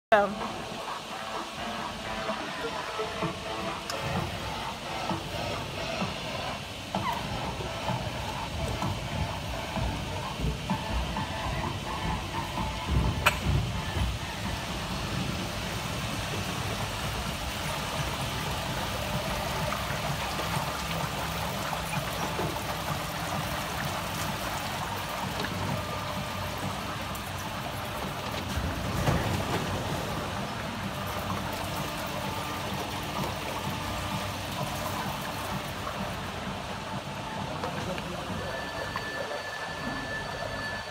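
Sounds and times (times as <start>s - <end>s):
low steady hum: 0.1s - 40.9s
water flowing through channel: 0.1s - 40.9s.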